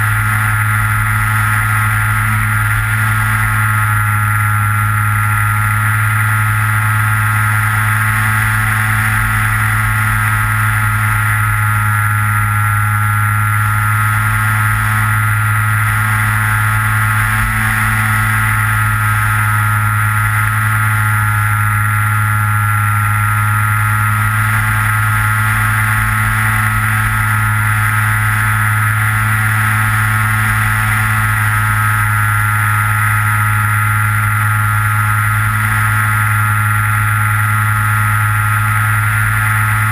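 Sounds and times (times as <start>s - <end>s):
electric propeller motor whine: 0.0s - 39.9s.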